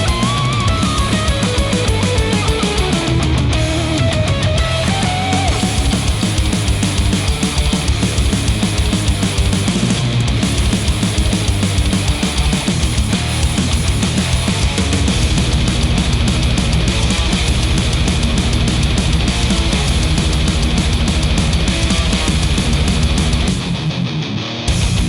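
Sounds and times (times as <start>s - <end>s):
rock music with guitar and drums: 0.0s - 25.0s.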